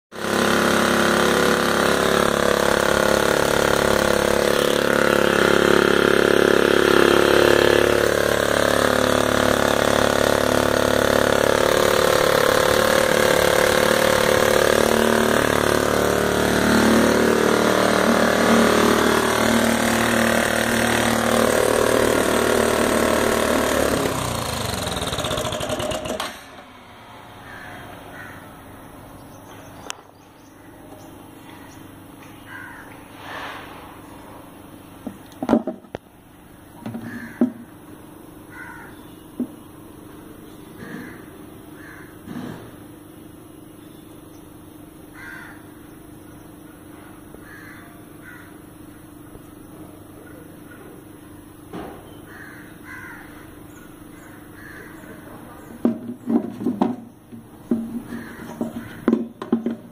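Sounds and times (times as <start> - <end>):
two-stroke engine running: 0.1 - 29.9, 34.5 - 59.9.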